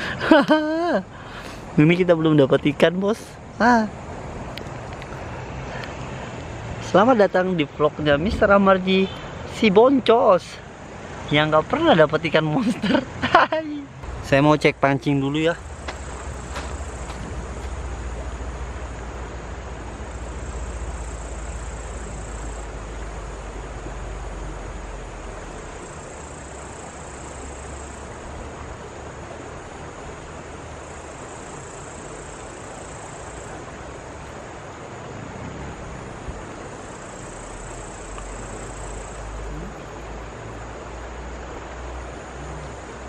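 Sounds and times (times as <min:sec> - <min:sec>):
rushing night ambience: 0:00.0 - 0:43.0.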